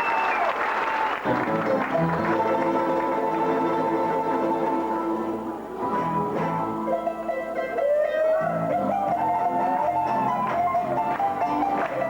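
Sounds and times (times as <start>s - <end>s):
music with plucked guitar: 1.4s - 12.0s.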